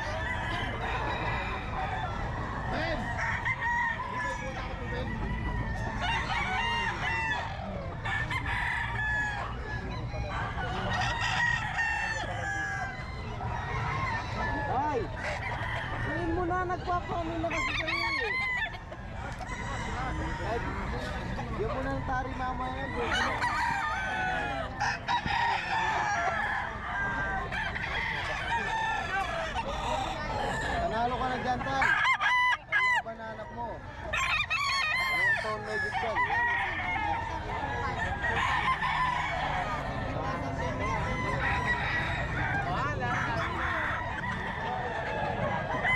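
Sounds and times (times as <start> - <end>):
roosters crowing: 0.0 - 45.9.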